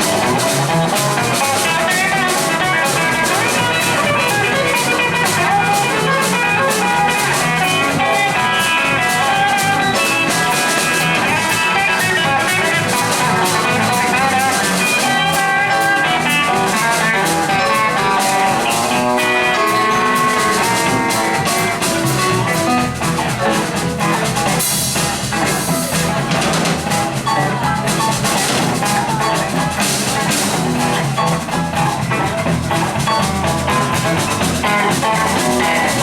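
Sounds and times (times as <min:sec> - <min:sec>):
blues-rock band playing: 0:00.0 - 0:36.0.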